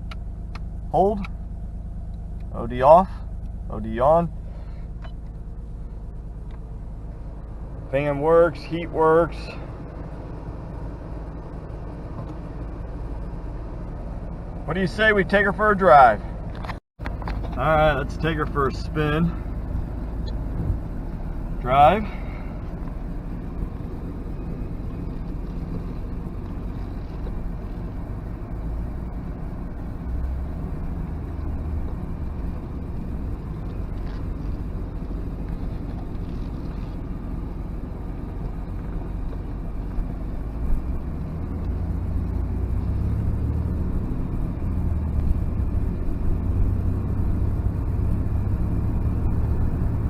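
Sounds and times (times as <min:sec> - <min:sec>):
car engine rumble: 0:00.0 - 0:50.0
road noise: 0:00.0 - 0:50.0.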